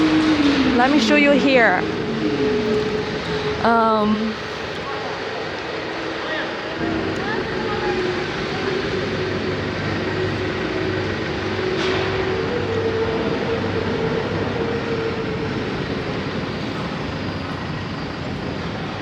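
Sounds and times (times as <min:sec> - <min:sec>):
cnc router workshop din: 0:00.0 - 0:19.0
low hum: 0:00.0 - 0:19.0
machine tone: 0:00.0 - 0:19.0.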